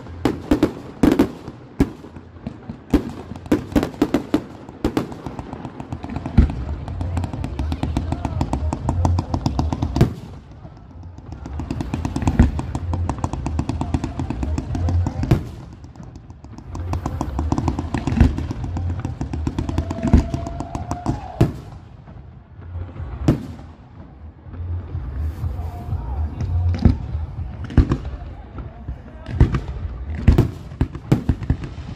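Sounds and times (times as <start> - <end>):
fireworks bangs: 0.0 - 31.9
fireworks crackling: 0.0 - 31.9.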